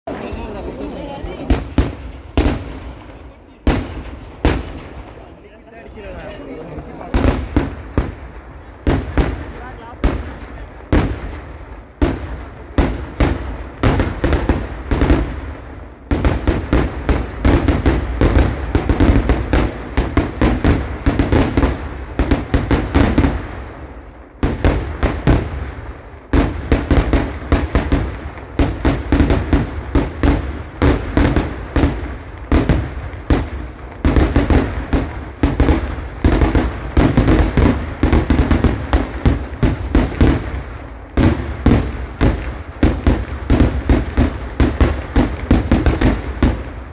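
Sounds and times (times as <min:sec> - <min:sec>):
fireworks banging: 0:00.0 - 0:46.9.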